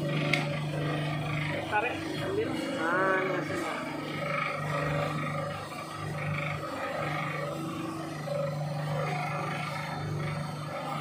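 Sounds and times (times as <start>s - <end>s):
grinder motor droning: 0.0s - 11.0s
plastic grinding: 0.0s - 11.0s.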